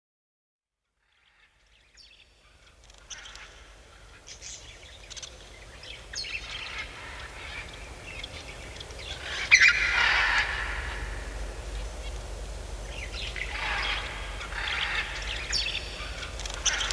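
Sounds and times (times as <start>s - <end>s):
faint low rumble: 2.4s - 16.9s
birds chirping and calling: 3.0s - 16.9s.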